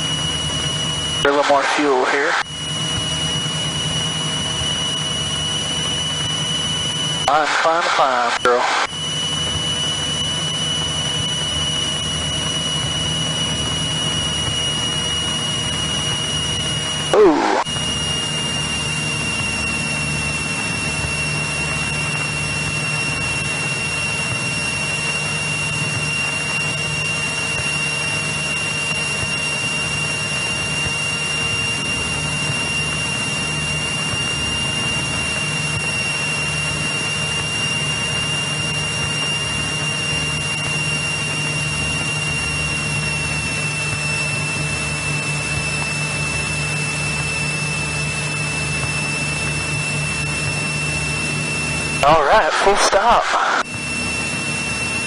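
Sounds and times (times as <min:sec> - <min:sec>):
airplane engine droning: 0:00.0 - 0:55.0
thin high whine: 0:00.0 - 0:55.0.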